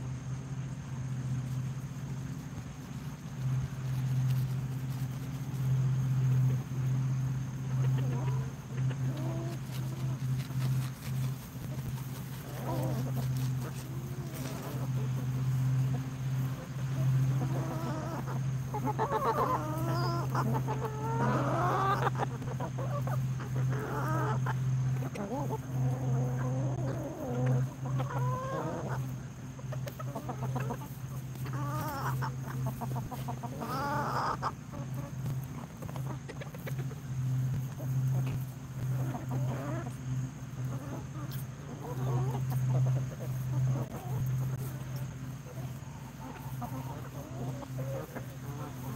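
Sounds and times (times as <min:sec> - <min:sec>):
hens clucking: 0:00.0 - 0:48.9
steady low hum: 0:00.0 - 0:48.9.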